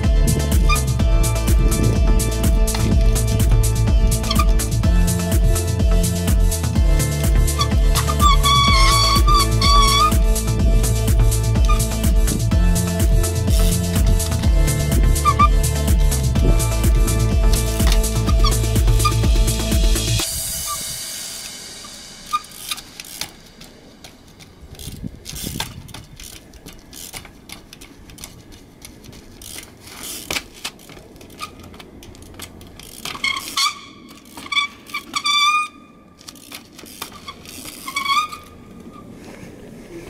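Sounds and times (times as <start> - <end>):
brakes squealing: 0.0 - 40.0.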